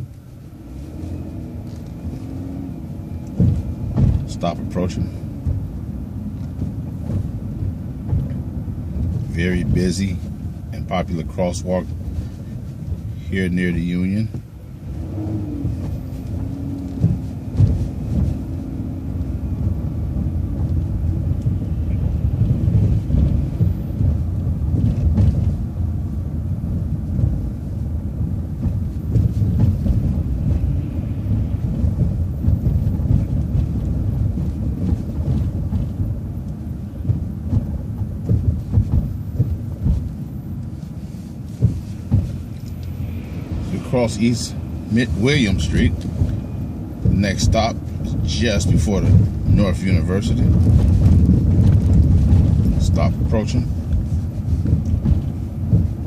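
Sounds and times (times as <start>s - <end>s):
vehicle road and engine rumble: 0.0s - 56.0s
vehicle thumps and bumps: 0.0s - 56.0s.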